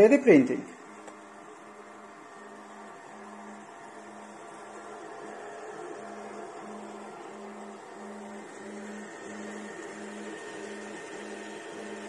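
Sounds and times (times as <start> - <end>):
steady whir: 0.0 - 12.0
stepper motors humming: 0.0 - 12.0.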